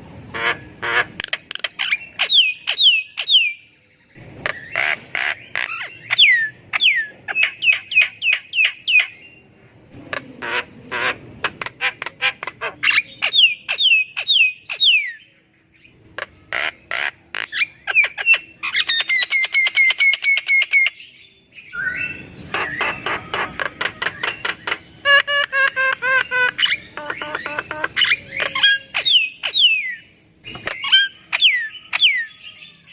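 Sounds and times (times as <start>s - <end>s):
bird trill: 0.2s - 32.9s
myna bird chattering and whistling: 0.2s - 32.9s.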